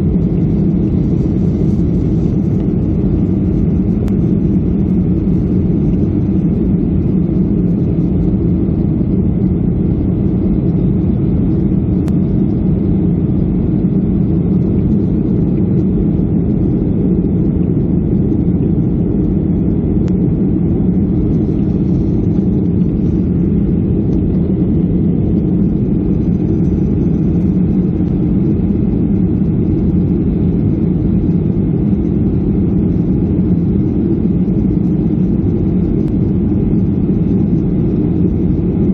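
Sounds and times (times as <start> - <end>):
airliner engines droning: 0.0 - 38.9.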